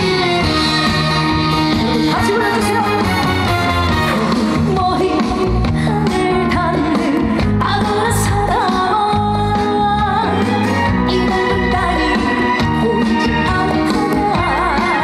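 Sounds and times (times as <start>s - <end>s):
band with bass and beat: 0.0s - 15.0s
pop song with person singing: 0.0s - 15.0s.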